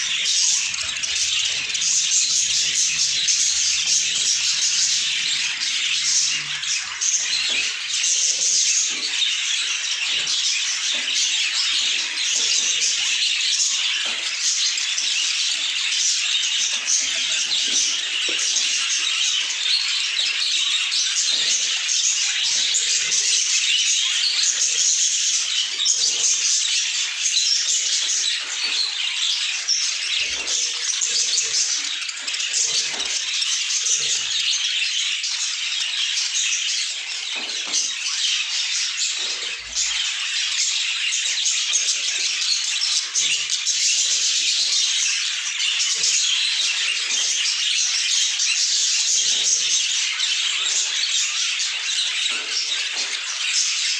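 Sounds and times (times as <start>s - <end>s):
budgerigars chattering and chirping: 0.0s - 53.9s.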